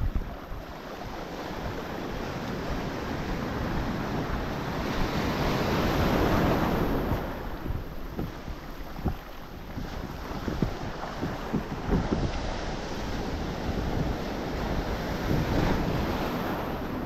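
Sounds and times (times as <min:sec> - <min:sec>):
ocean waves washing in: 0:00.0 - 0:17.0
wind buffeting microphone: 0:00.0 - 0:17.0.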